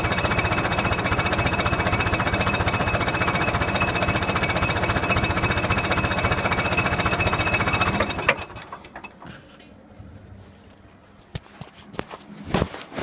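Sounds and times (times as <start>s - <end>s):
diesel engine running: 0.0s - 10.6s.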